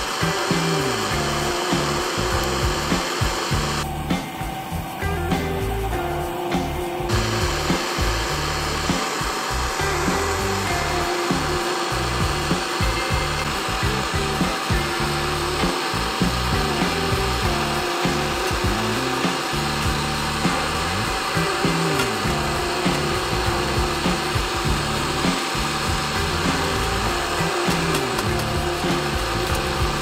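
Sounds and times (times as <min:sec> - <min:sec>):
background music: 0:00.0 - 0:30.0
gas torch flame hissing: 0:00.0 - 0:30.0.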